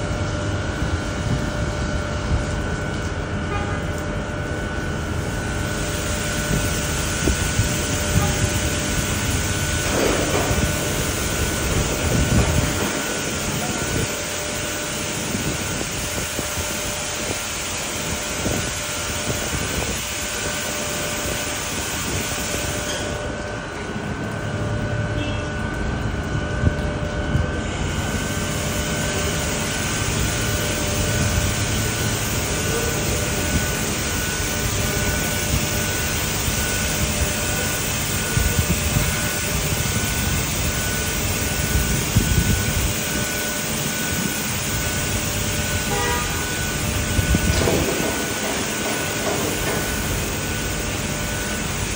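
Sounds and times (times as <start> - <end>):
faint machine whine: 0.0 - 51.9
water jets hissing: 3.9 - 23.6, 27.6 - 51.9.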